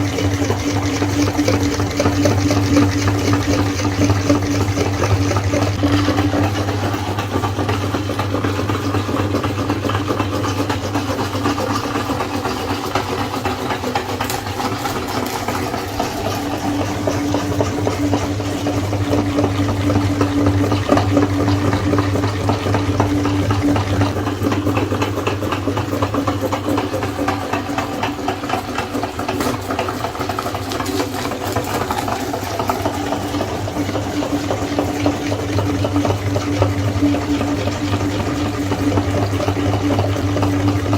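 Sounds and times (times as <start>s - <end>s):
meat grinder motor humming: 0.0s - 40.9s.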